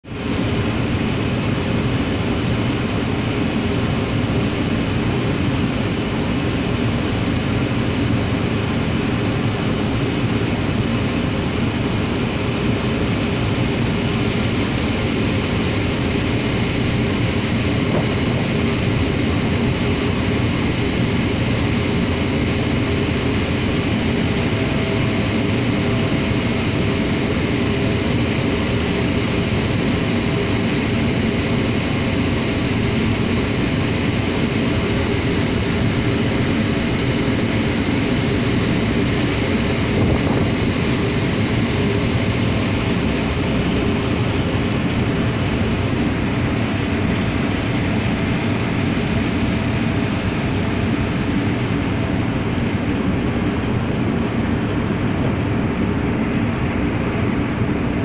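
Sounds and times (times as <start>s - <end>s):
ship engines droning: 0.1s - 58.0s.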